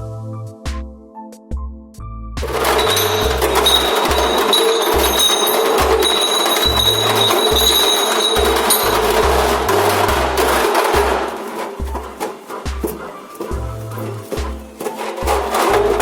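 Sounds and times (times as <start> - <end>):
music with steady beat and bass: 0.0 - 16.0.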